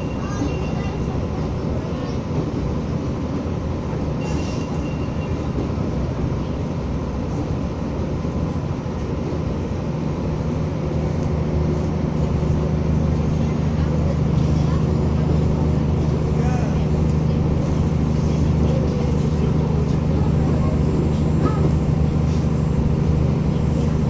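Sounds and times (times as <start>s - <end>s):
railcar engine rumbling: 0.0s - 24.0s.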